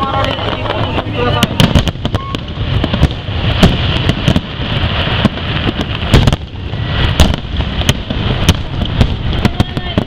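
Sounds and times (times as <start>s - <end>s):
fireworks booming: 0.0s - 10.0s
rushing background noise: 0.0s - 10.0s.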